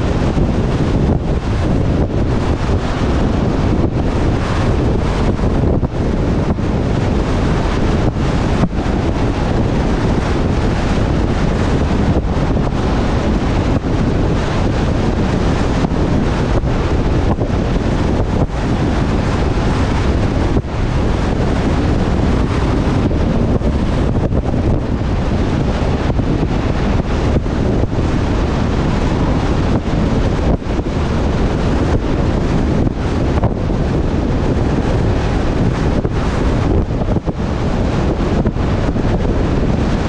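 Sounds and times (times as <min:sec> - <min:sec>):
low road rumble: 0:00.0 - 0:40.0
wind rushing over microphone: 0:00.0 - 0:40.0.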